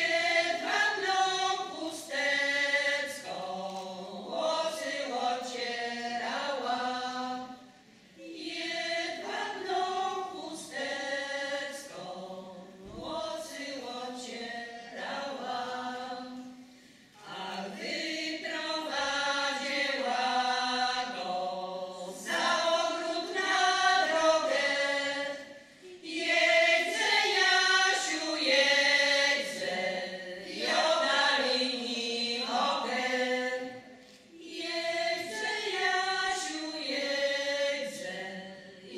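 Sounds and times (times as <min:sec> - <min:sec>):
women's choir singing a cappella: 0:00.0 - 0:38.9.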